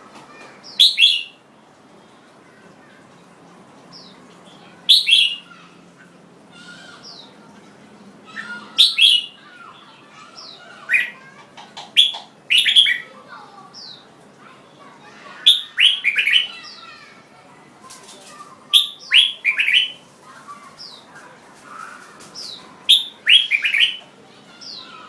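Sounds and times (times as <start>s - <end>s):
bird singing loud phrases: 0.3s - 1.4s, 3.9s - 7.4s, 8.3s - 17.2s, 17.8s - 25.0s.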